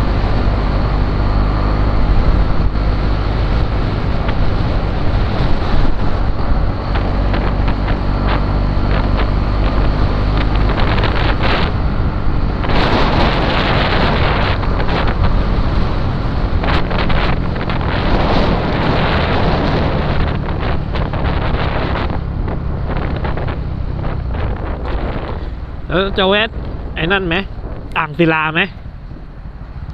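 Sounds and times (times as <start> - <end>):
motorcycle engine running: 0.0 - 29.9
wind buffeting microphone: 0.0 - 29.9.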